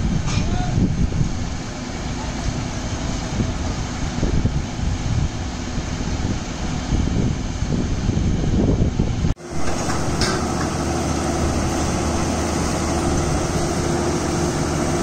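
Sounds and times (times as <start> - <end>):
drilling rig machine drone: 1.2 - 8.4, 9.3 - 15.0.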